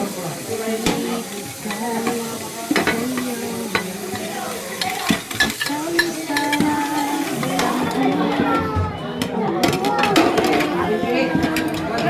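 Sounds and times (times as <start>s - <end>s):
dishes clinking in water: 0.4s - 12.0s.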